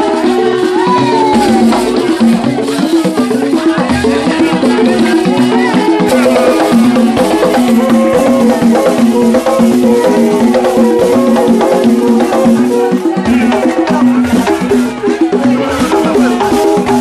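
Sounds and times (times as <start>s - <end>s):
fast percussion with wooden knocks: 0.0s - 17.0s.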